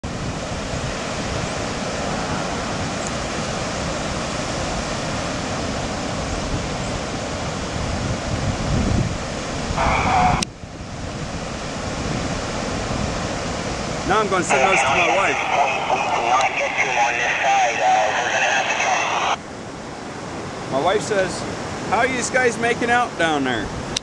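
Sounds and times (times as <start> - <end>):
floodwater rushing: 0.0 - 19.4.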